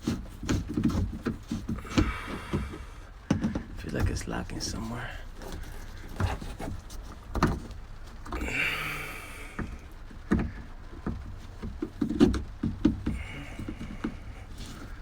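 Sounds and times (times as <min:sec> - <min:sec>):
scraping rustle: 0:00.0 - 0:15.0.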